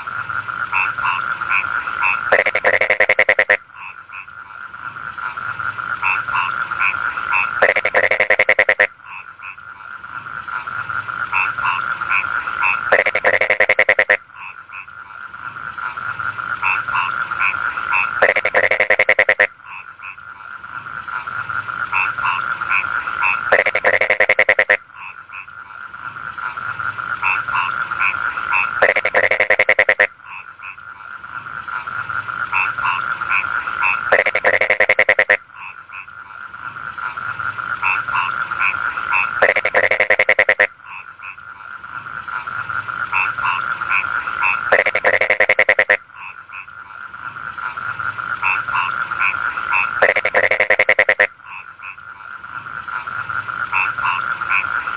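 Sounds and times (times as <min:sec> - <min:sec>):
frogs trilling: 0:00.0 - 0:54.9
rapid pulsed frog croaks: 0:00.0 - 0:54.9.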